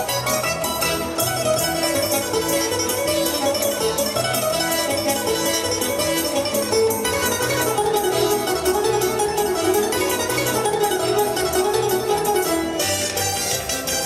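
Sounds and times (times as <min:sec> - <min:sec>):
plucked string ensemble music: 0:00.0 - 0:14.0.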